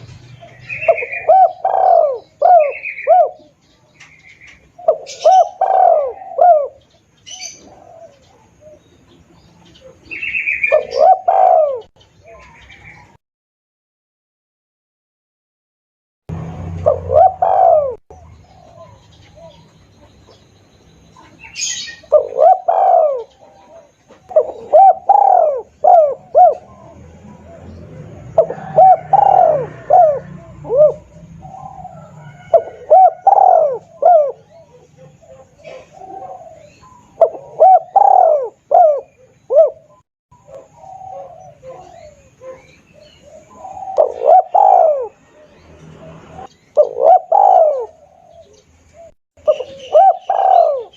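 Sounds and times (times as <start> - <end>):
dove cooing: 0.0 - 13.1, 16.3 - 20.4, 21.1 - 50.9.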